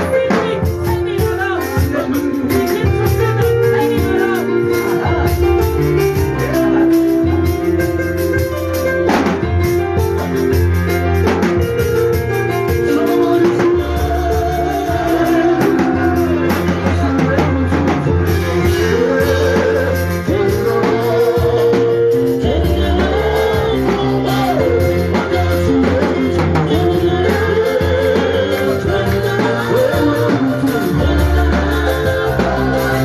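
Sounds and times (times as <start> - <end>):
band playing drums bass guitar: 0.0 - 33.0.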